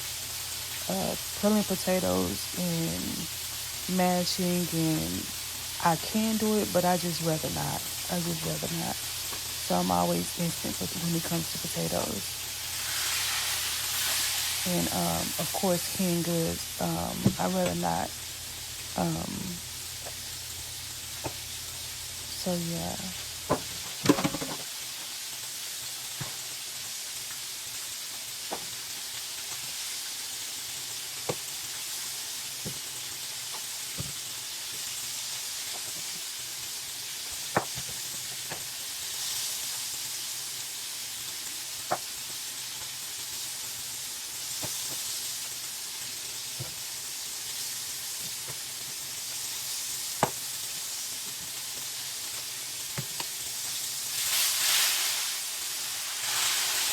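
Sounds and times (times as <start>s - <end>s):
food sizzling in a hot pan: 0.0s - 56.9s.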